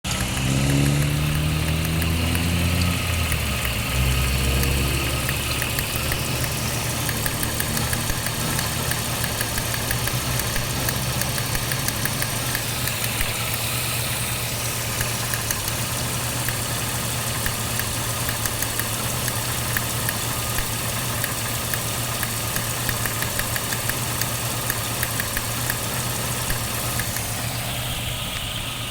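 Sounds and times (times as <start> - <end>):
car engine idling with misfire: 0.0 - 28.9
engine ticking: 0.0 - 28.9.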